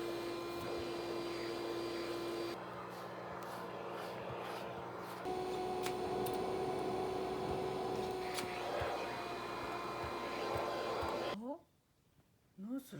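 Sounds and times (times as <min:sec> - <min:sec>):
vacuum cleaner running: 0:00.0 - 0:11.4.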